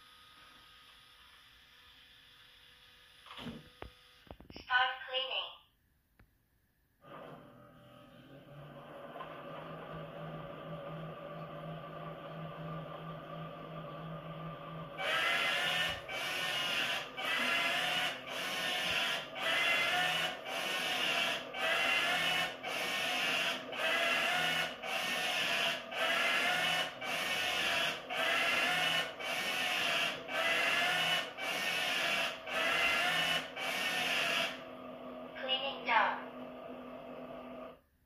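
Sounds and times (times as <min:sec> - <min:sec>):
pulsing mechanical whirring: 0:07.1 - 0:37.7.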